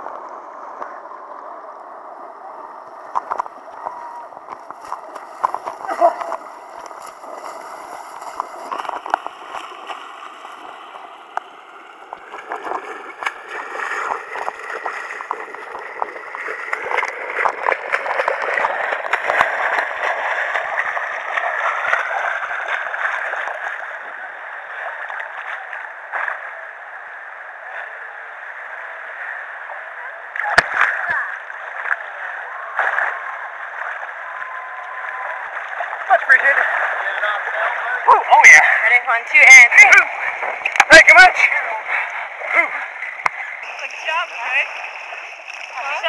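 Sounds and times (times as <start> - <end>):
arm splashing through water: 3.0 - 26.5, 30.3 - 46.0.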